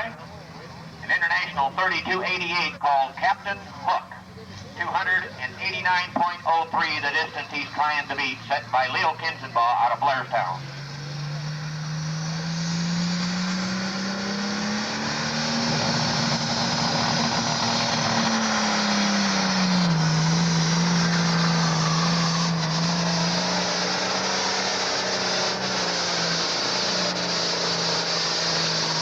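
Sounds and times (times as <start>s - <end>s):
tractor diesel engine revving: 0.0s - 29.0s.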